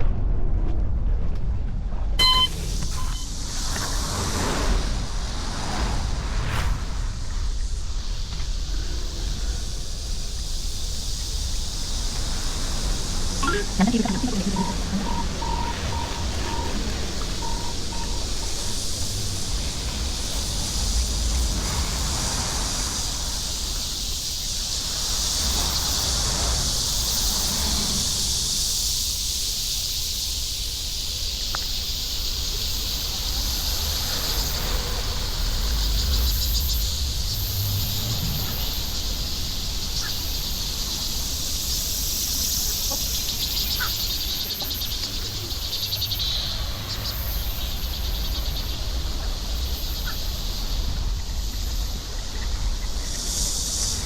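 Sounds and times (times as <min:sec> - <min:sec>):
insects chorus: 0:02.2 - 0:54.0.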